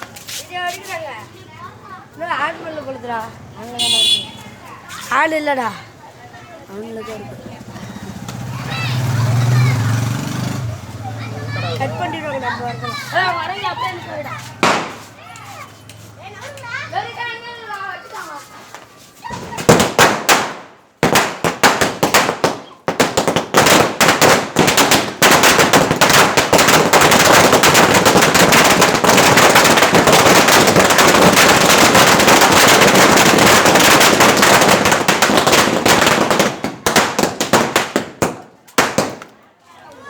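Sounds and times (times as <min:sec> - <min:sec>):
firecracker string crackling: 0:00.0 - 0:01.3, 0:06.8 - 0:17.4, 0:18.1 - 0:39.4.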